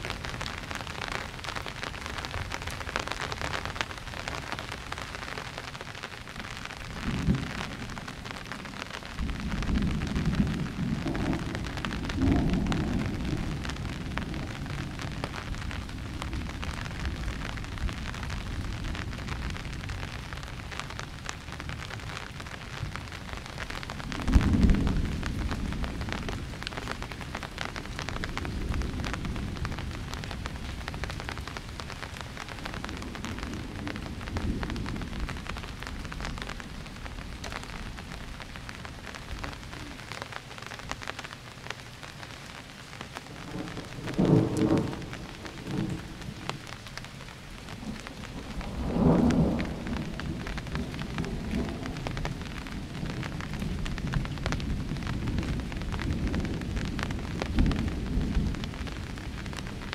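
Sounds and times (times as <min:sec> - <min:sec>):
steady rain: 0:00.0 - 0:59.9
thunder rumbling and cracking: 0:06.2 - 0:40.1, 0:43.2 - 0:59.9.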